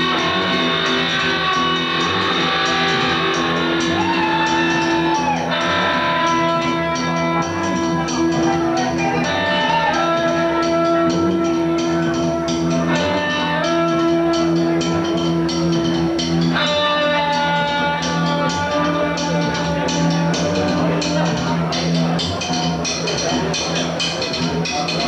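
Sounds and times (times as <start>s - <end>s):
electric guitar bending notes: 0.0s - 25.0s
rock band playing: 0.0s - 25.0s.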